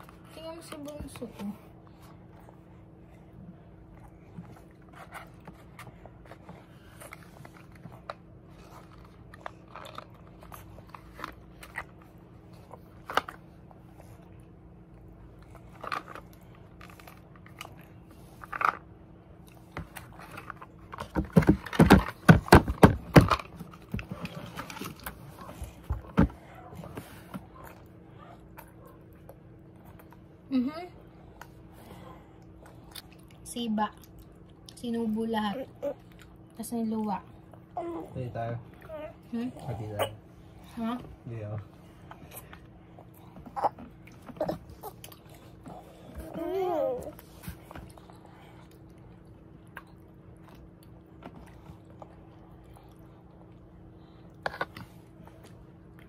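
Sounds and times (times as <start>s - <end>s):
children chewing: 0.0s - 21.1s, 23.2s - 56.0s.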